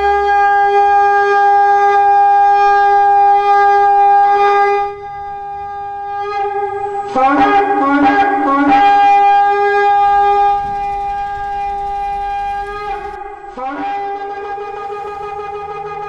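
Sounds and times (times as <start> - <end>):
ram's horn blasts: 0.0 - 16.0.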